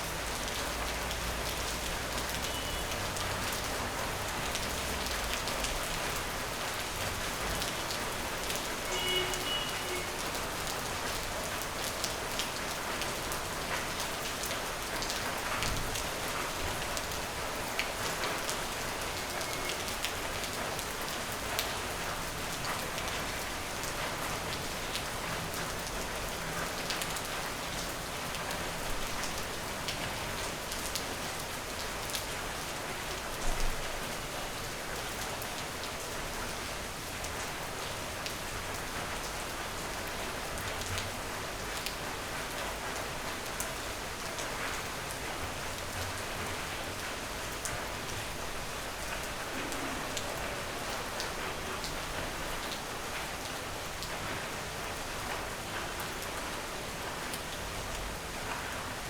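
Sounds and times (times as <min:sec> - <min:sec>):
steady rain on a surface: 0:00.0 - 0:59.0.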